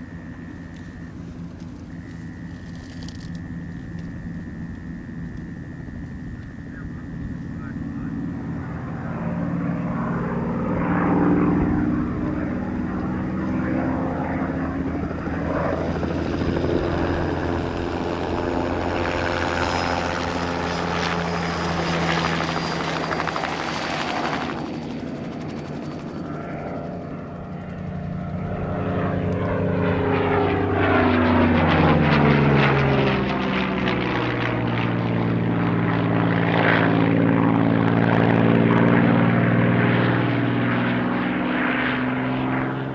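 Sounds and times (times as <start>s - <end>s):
propeller plane engine flying past: 0.0s - 42.9s.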